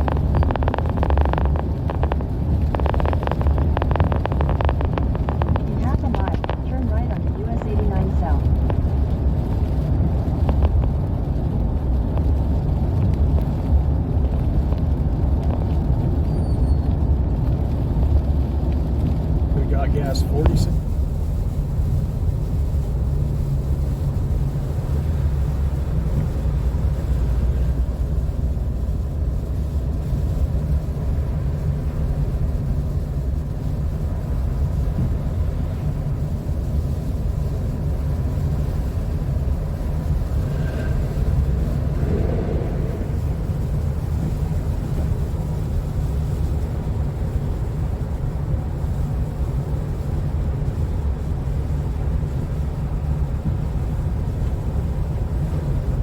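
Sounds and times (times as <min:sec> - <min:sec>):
car driving on slushy road: 0:00.0 - 0:56.0.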